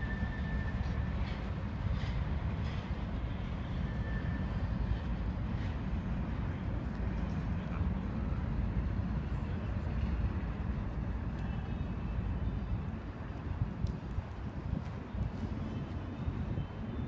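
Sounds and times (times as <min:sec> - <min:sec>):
freight train rumbling by: 0:00.0 - 0:17.0.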